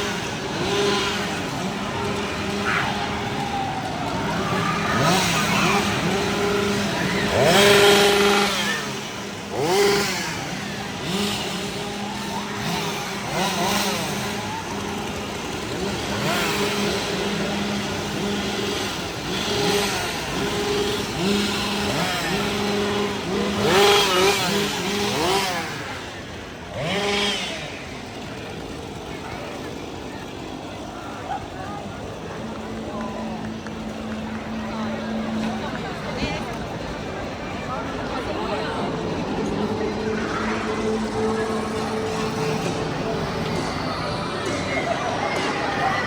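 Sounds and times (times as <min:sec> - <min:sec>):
chainsaw engines idling and revving: 0:00.0 - 0:46.0.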